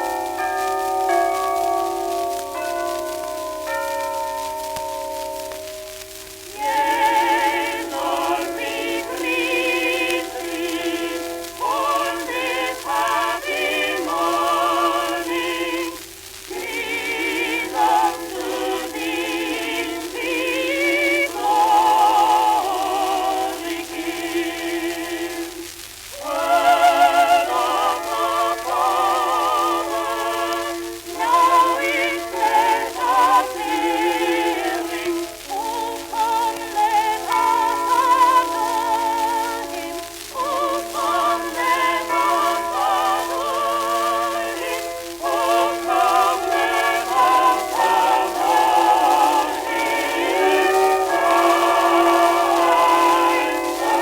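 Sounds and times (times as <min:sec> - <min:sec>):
operatic singing on old record: 0:00.0 - 0:54.0
record hiss: 0:00.0 - 0:54.0.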